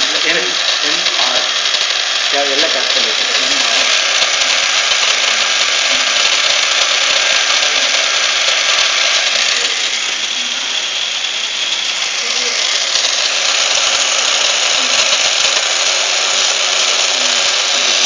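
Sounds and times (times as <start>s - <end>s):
gear motors whirring: 0.0s - 18.0s.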